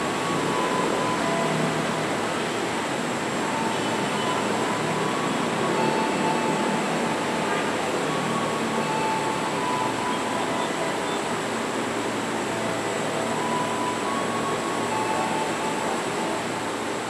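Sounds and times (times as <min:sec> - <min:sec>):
faint high whining tones: 0:00.0 - 0:17.0.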